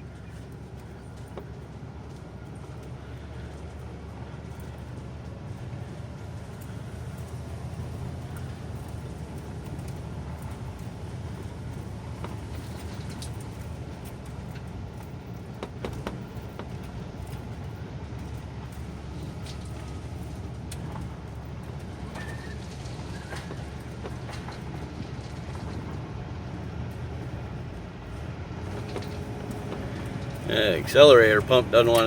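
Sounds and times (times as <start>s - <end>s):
motorhome engine droning: 0.0s - 32.0s
light clicks and rattles: 0.1s - 26.1s.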